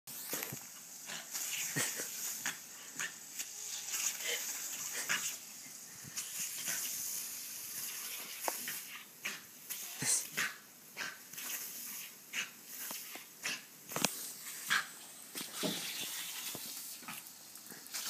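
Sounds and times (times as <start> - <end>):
sprinkler spray hissing: 0.1 - 18.0.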